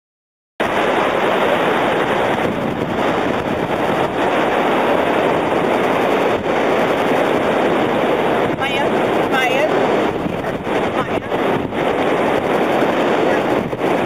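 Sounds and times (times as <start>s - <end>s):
small waves breaking: 0.6s - 14.0s
wind buffeting microphone: 0.6s - 14.0s.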